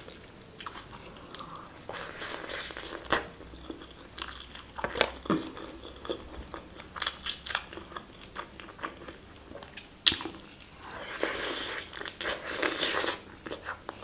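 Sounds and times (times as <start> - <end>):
chewing and wet mouth sounds: 0.0 - 14.0.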